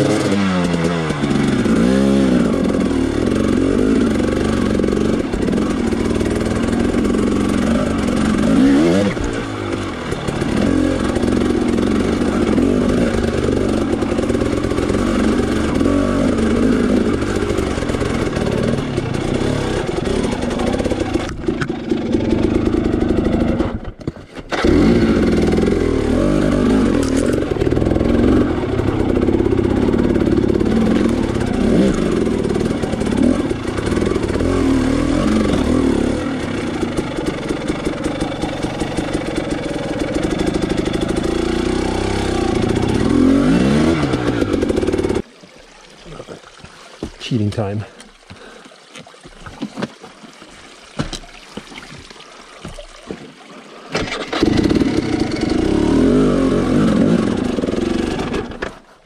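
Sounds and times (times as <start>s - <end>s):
dirt bike engine revving: 0.0s - 45.3s, 53.9s - 58.8s.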